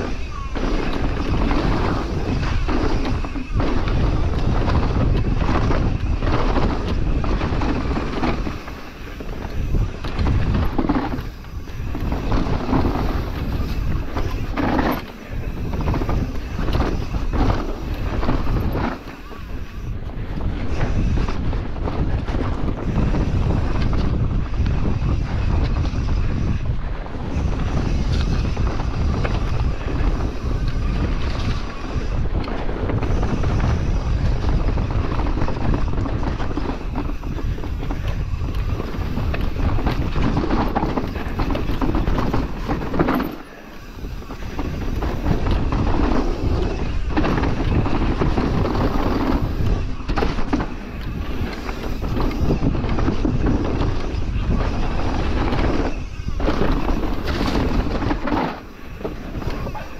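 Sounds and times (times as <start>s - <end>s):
bike knocks and rattles: 0.0s - 59.9s
bike tyres rolling over dirt: 0.0s - 59.9s
wind buffeting microphone: 0.0s - 59.9s.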